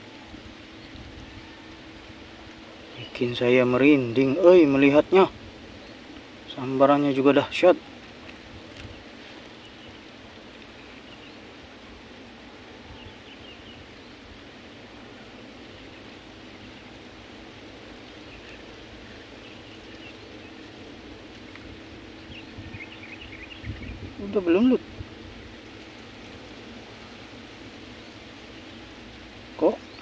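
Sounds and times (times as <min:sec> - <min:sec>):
faint background hiss: 0:00.0 - 0:30.0
insects trilling: 0:00.0 - 0:30.0.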